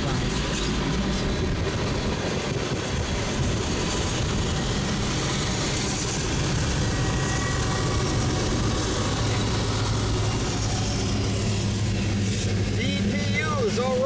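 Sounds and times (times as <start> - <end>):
locomotive engine hum: 0.0 - 14.0
train wheels rumbling on rails: 0.0 - 14.0.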